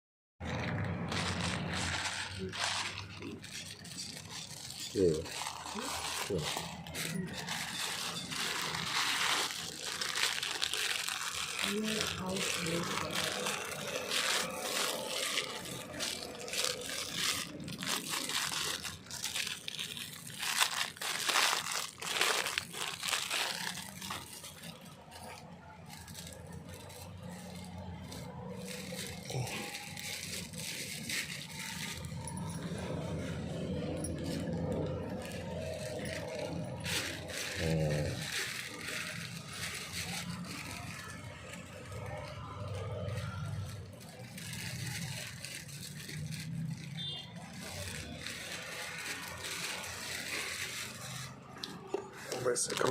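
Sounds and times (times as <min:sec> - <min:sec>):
packaging crumpled and torn: 0:00.4 - 0:52.9.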